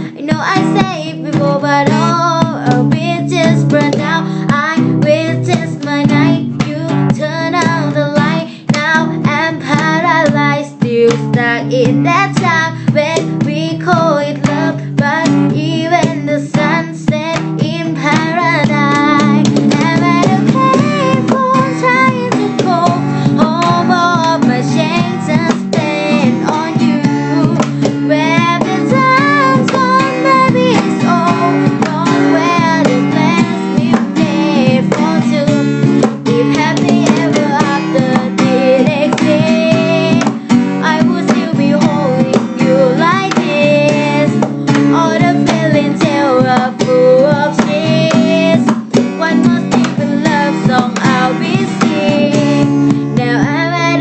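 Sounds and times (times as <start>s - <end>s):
strummed acoustic guitar: 0.0s - 54.0s.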